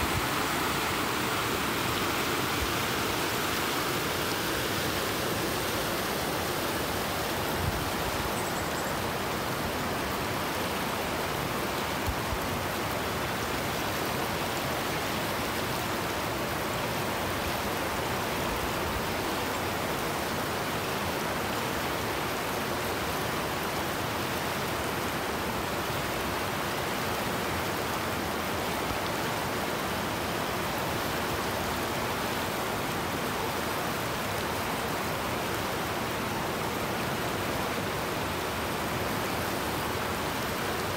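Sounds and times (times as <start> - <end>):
river rapids rushing: 0.0 - 40.9.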